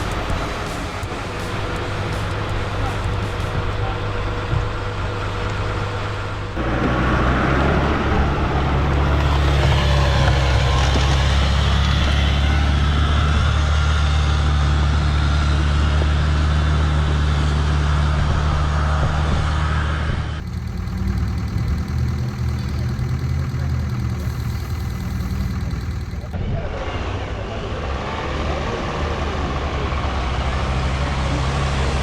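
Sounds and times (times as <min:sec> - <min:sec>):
truck engine rumbling under load: 0:00.0 - 0:26.4.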